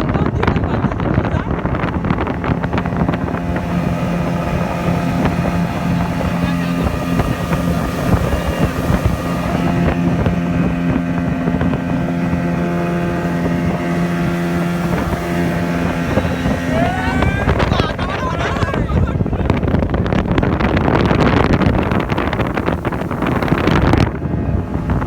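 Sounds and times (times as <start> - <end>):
motorboat engine running: 0.0 - 25.0
wind buffeting microphone: 0.0 - 25.0.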